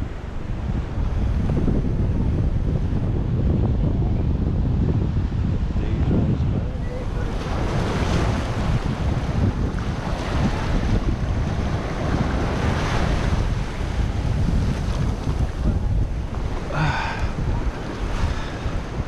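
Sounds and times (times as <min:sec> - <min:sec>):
surf washing over sand: 0:00.0 - 0:19.0
wind buffeting microphone: 0:00.0 - 0:19.0.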